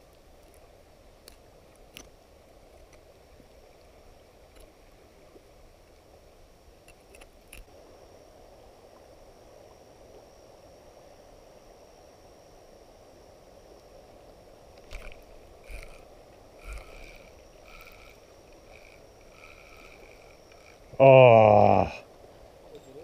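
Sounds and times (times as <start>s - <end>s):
faint high hum: 0.0s - 23.0s.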